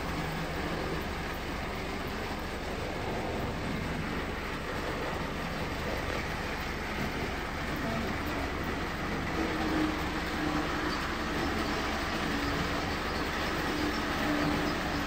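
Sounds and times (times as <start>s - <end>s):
model train running on metal track: 0.0s - 15.0s.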